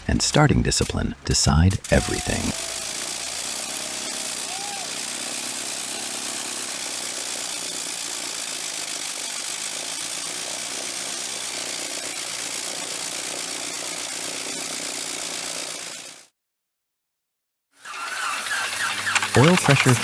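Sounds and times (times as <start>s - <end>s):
engine running: 0.0s - 16.3s, 17.8s - 20.0s.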